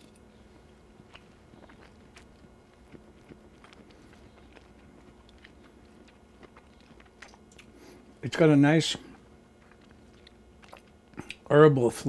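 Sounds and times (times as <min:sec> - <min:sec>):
faint wet chewing clicks: 0:00.0 - 0:08.1, 0:09.1 - 0:11.5.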